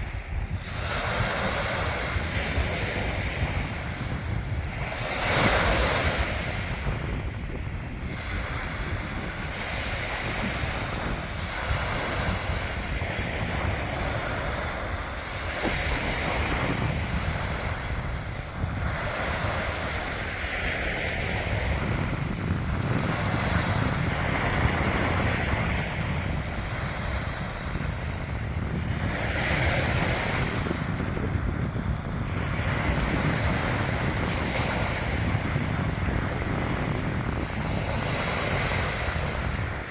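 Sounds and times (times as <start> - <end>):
sea waves washing onto beach: 0.0 - 39.9
wind rumbling on microphone: 0.0 - 39.9.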